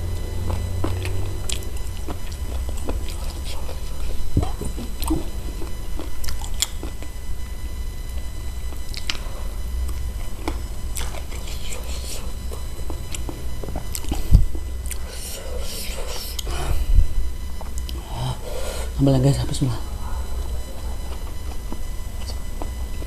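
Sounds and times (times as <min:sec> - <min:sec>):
person chewing and sucking: 0:00.0 - 0:19.0, 0:20.2 - 0:23.0
steady low hum: 0:00.0 - 0:23.0.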